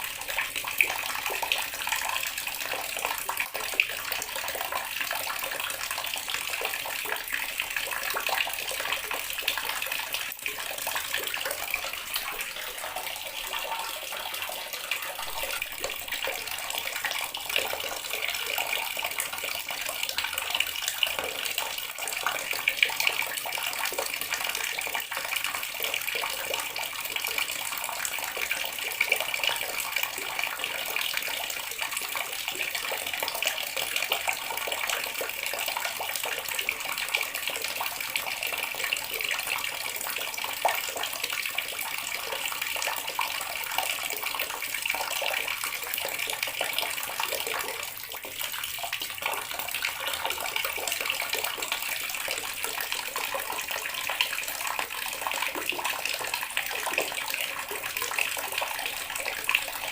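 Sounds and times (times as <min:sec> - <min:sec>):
tap water running and splashing: 0:00.0 - 0:59.9.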